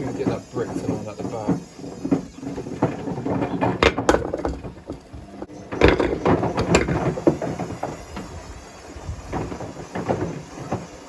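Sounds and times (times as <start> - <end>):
bricks tumbling in washing machine: 0.0 - 11.0.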